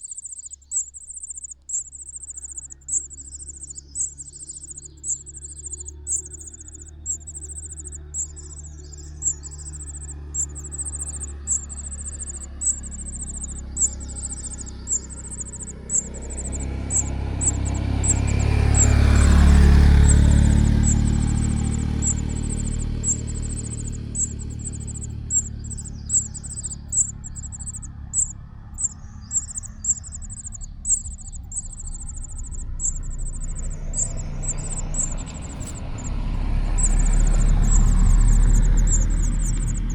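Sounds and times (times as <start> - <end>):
insect chirping: 0.0 - 39.9
vehicle passing: 0.0 - 39.9.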